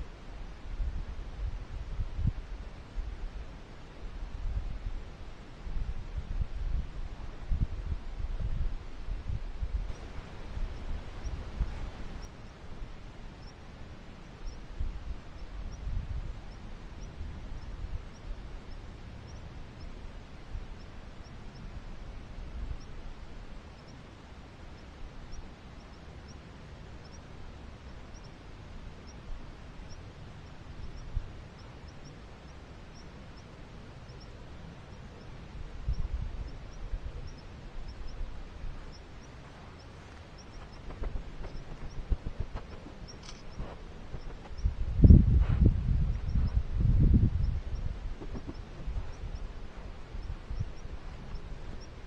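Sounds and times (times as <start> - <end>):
steady hiss: 0.0 - 52.0
wind rumbling on microphone: 0.0 - 52.0.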